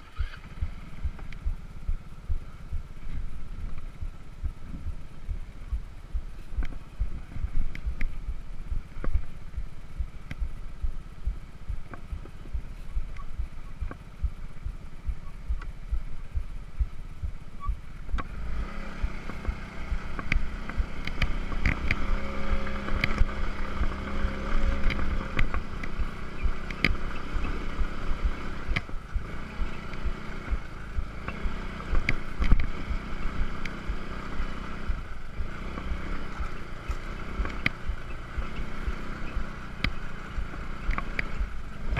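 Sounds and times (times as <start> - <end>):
moped engine running: 0.0 - 41.9.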